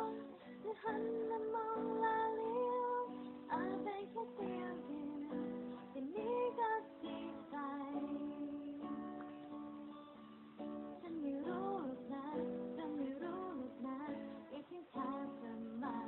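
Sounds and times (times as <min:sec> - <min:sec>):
woman singing slow melody: 0:00.0 - 0:10.0, 0:10.8 - 0:16.0
strummed guitar: 0:00.0 - 0:16.0.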